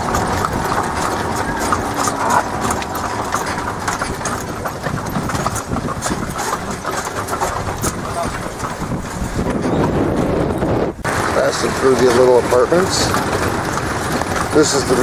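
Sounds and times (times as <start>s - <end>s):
vehicle engine running: 0.0s - 9.4s, 11.0s - 15.0s
horse hooves on paved road: 0.0s - 15.0s.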